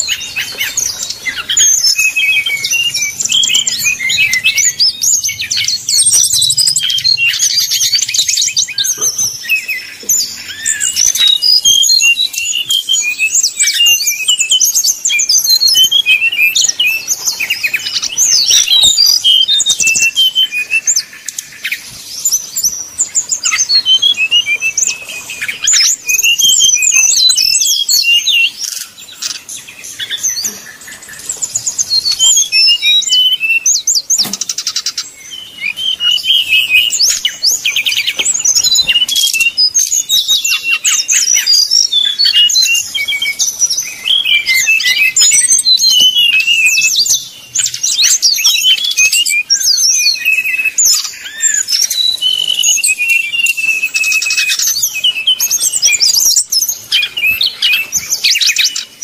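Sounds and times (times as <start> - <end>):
bird song whistles and chatter: 0.0 - 59.0.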